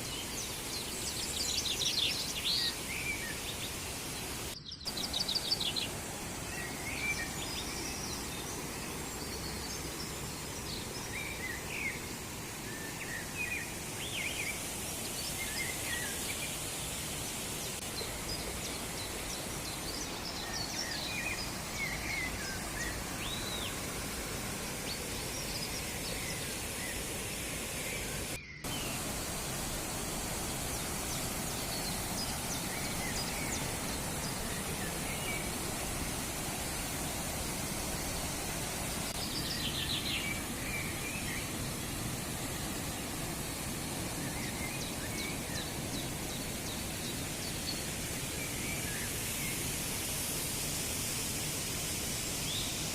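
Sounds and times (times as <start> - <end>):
birds chirping: 0.0 - 50.3
waterfall rushing: 0.0 - 52.9.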